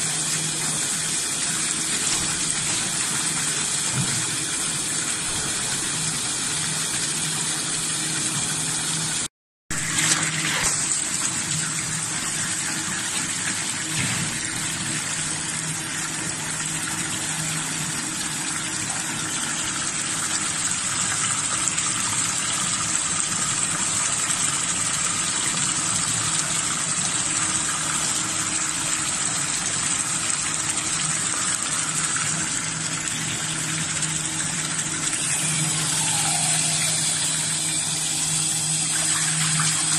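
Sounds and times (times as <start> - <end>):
tap water gushing into tub: 0.0 - 39.9.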